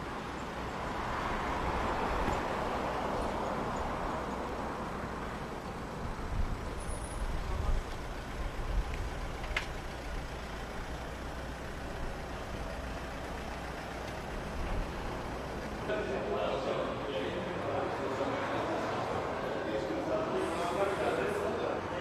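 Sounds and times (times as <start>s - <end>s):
road traffic hiss and rumble: 0.0s - 22.0s.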